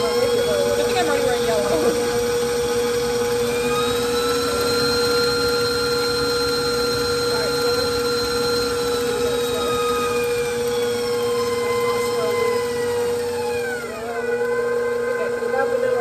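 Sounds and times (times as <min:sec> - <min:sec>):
stand mixer motor running: 0:00.0 - 0:16.0.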